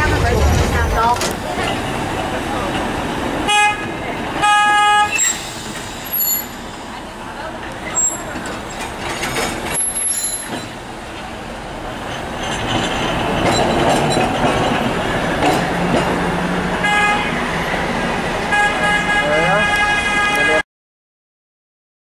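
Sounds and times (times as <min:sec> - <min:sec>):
trams and cars rolling past: 0:00.0 - 0:20.6.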